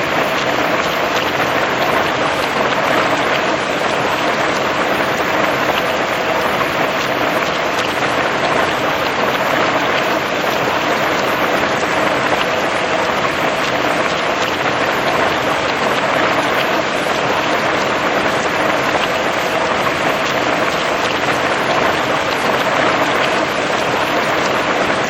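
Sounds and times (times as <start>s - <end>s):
raindrops ticking: 0.0s - 25.0s
steady rain hiss: 0.0s - 25.0s.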